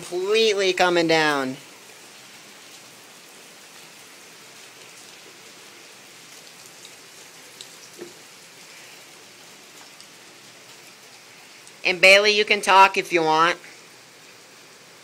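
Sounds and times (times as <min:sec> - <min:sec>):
raindrops ticking: 0:00.0 - 0:13.0
heavy rain pouring: 0:00.0 - 0:15.0.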